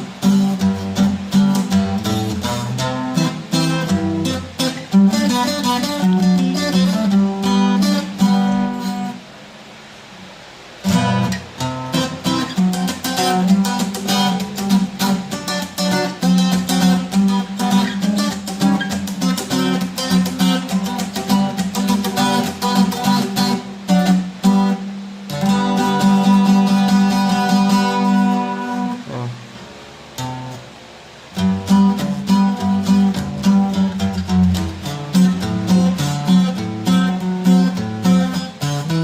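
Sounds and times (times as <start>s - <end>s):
twelve-string bass guitar playing: 0.0s - 9.2s, 10.8s - 29.6s, 31.4s - 39.0s.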